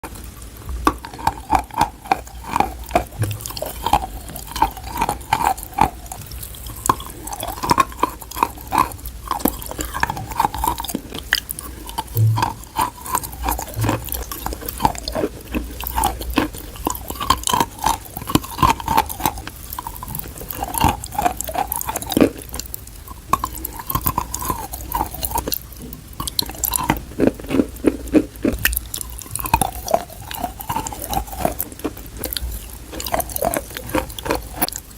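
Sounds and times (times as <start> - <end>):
crunching and chewing clay: 0.0 - 34.9.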